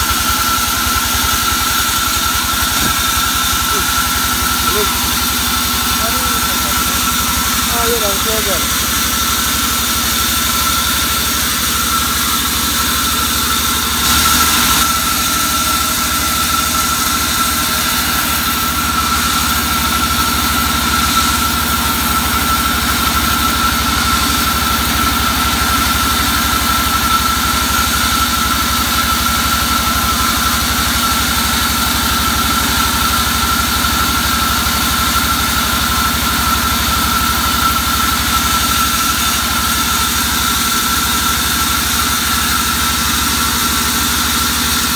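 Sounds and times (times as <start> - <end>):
band saw high whine: 0.0 - 44.9.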